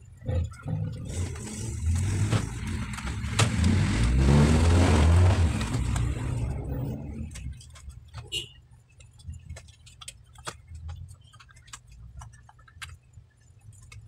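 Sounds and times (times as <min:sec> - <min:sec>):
vehicle engine: 0:00.0 - 0:12.8.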